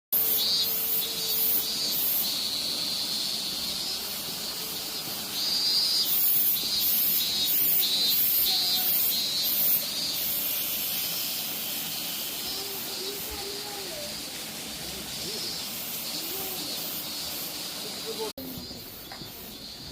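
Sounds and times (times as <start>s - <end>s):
cicada singing pulsing call: 0.1s - 19.9s.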